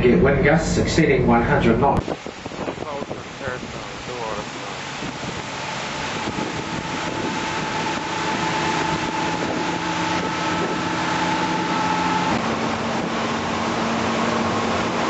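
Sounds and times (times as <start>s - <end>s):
boat engine running: 0.0s - 15.0s
wind on microphone: 0.0s - 15.0s
rush of water: 0.6s - 15.0s.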